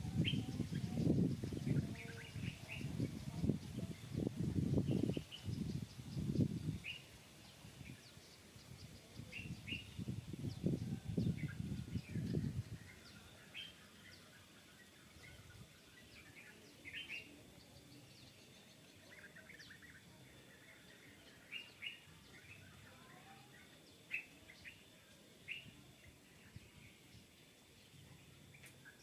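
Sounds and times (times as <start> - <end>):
faint birds chirping: 0.0 - 29.0
low noise: 0.0 - 29.0.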